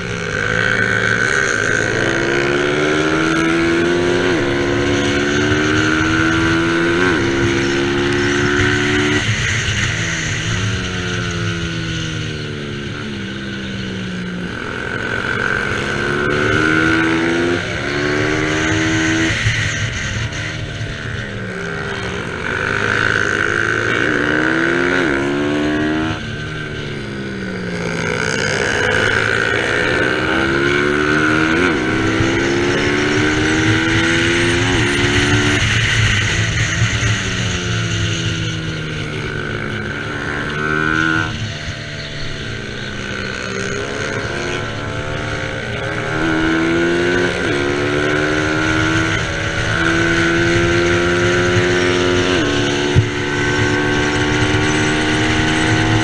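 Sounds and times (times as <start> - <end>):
motorcycle engine racing: 0.0 - 56.0.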